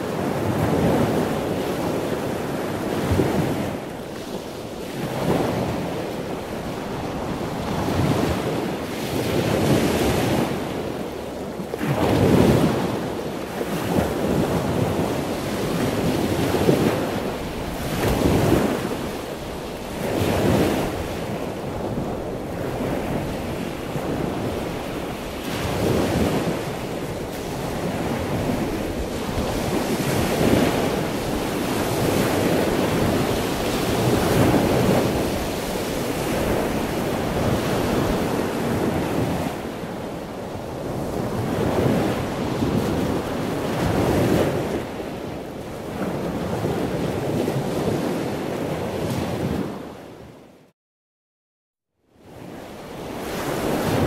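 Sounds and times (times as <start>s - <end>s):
waves washing in: 0.0s - 50.5s, 52.2s - 54.0s.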